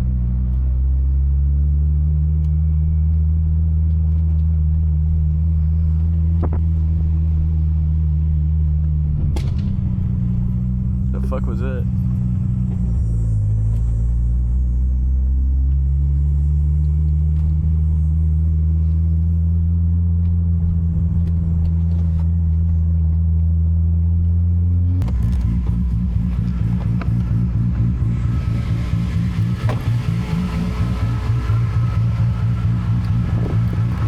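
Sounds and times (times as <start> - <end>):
car engine droning: 0.0 - 34.0.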